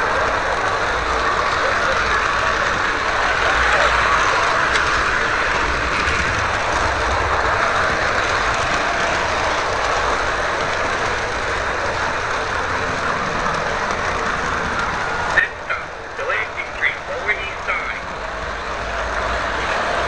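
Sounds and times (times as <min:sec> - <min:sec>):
model train motor: 0:00.0 - 0:20.0
model train rolling on track: 0:00.0 - 0:20.0.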